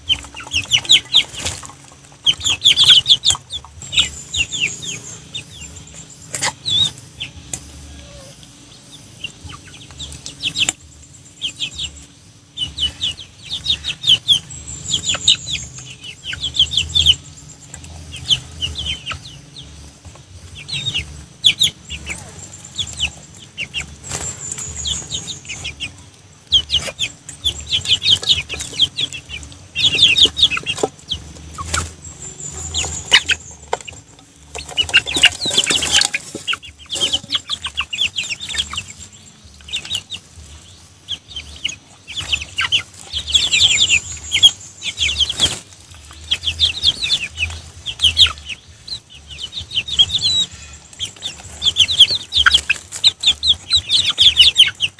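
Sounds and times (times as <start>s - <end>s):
young chickens clucking: 0.0s - 54.9s.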